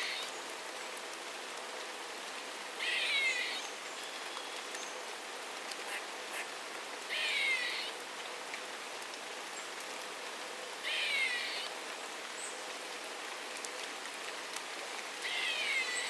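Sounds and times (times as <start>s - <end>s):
rain patter: 0.0s - 16.0s.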